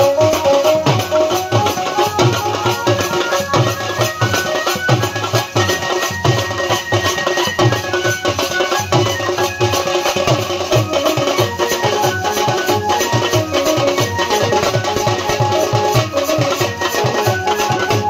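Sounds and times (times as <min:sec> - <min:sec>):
held melody line: 0:00.0 - 0:18.0
side drum: 0:00.0 - 0:18.0.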